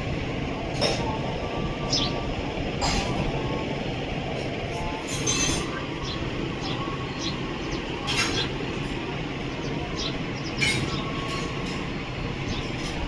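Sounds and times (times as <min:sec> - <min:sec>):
low urban rumble: 0:00.0 - 0:13.0.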